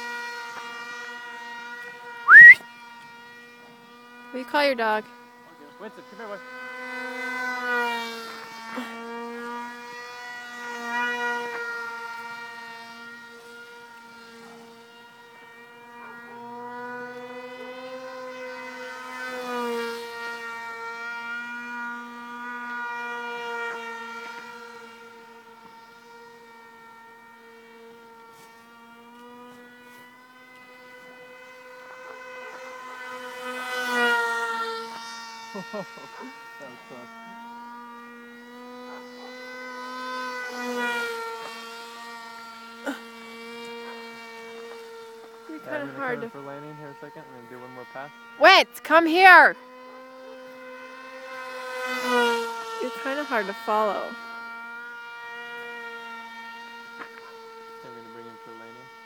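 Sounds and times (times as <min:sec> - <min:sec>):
model plane propeller whining: 0:00.0 - 0:59.0.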